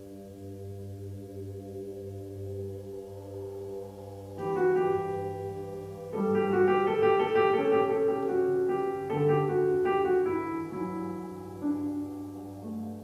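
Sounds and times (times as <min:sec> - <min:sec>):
slow piano music: 0:00.0 - 0:13.0
steady low tone: 0:00.0 - 0:13.0.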